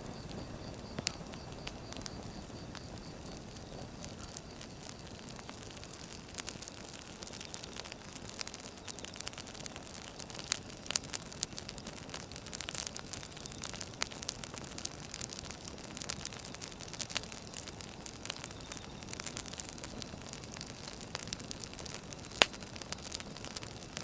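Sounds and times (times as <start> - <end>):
low fire hiss: 0.0 - 24.0
wood fire crackling: 0.0 - 24.0.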